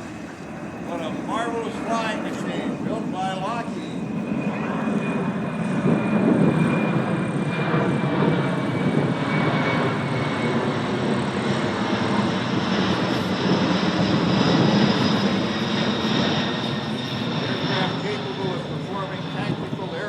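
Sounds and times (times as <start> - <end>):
high engine whine: 0.0 - 20.0
jet engines flying past: 0.0 - 20.0.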